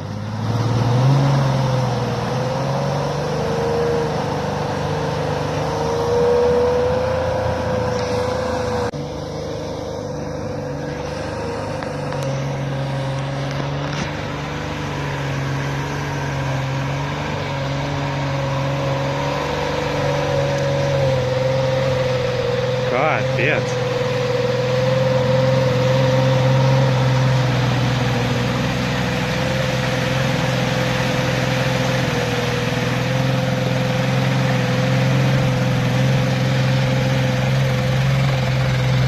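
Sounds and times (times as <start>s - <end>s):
car engine running under load: 0.0s - 39.0s.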